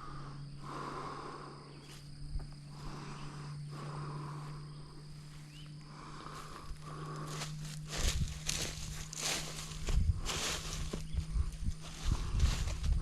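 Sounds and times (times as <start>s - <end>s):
man breathing heavily: 0.0s - 13.0s
steady low hum: 0.0s - 13.0s.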